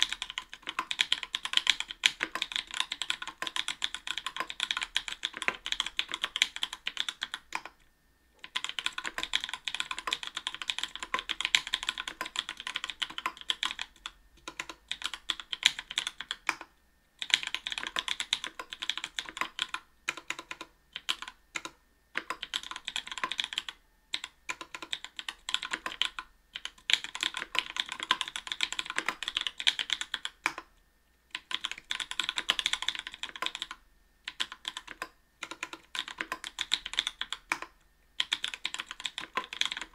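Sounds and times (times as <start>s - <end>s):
mechanical keyboard typing: 0.0s - 7.8s, 8.4s - 30.7s, 31.3s - 39.9s.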